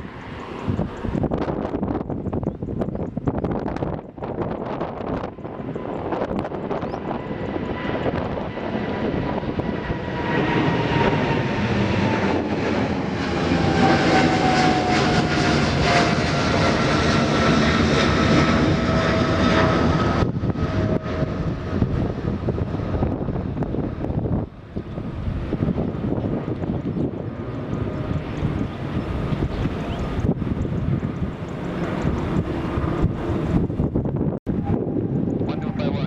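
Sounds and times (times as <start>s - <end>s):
jet engines roaring past: 0.0s - 36.0s.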